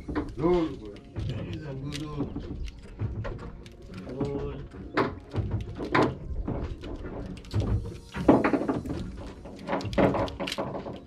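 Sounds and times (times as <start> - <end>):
knocks and thumps on boat: 0.0 - 11.0.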